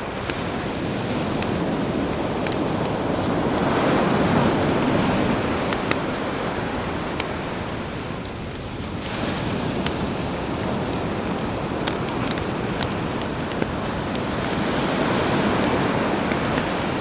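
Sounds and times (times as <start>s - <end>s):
campfire crackling and popping: 0.0s - 17.0s
sea waves washing in: 0.0s - 17.0s.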